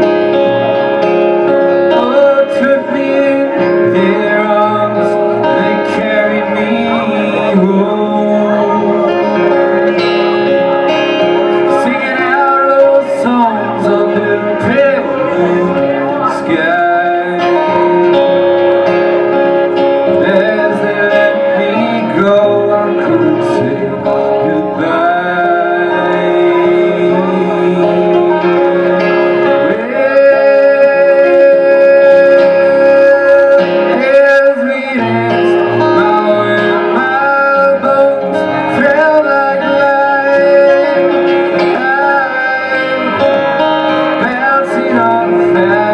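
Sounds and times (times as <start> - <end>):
guitar accompaniment: 0.0 - 45.9
person singing: 0.0 - 45.9.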